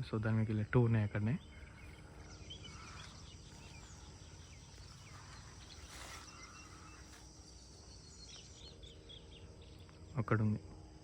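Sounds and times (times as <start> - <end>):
insect drone: 0.0 - 11.0
bird chirps: 1.0 - 10.2.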